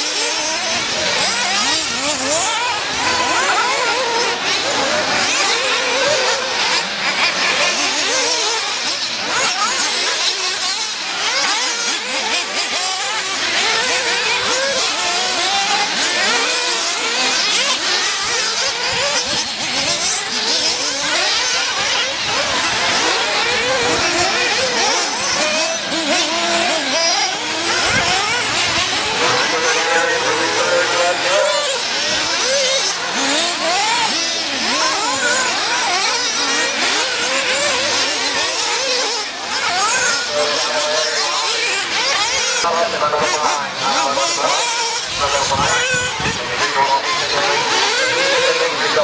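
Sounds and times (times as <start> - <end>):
rc car engines revving: 0.0 - 49.0.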